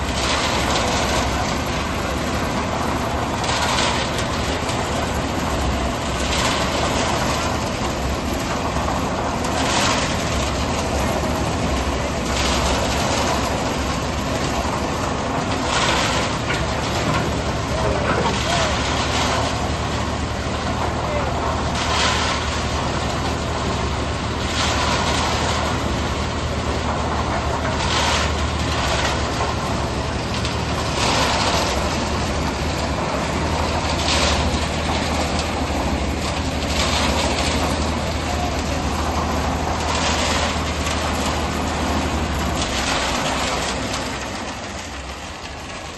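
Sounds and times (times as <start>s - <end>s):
concrete mixer engine drone: 0.0s - 45.9s.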